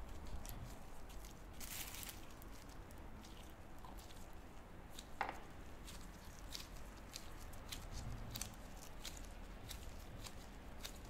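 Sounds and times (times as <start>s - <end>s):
fingers kneading soft dough: 0.0s - 11.0s
low room hum: 0.0s - 11.0s.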